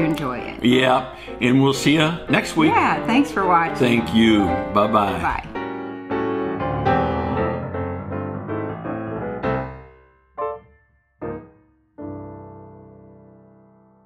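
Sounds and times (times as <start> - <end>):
piano chords and notes: 0.0 - 14.0.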